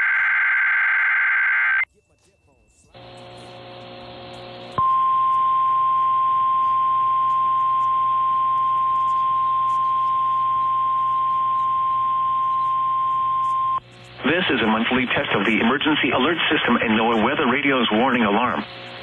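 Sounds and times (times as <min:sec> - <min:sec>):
hiss and low hum: 0:02.7 - 0:19.0.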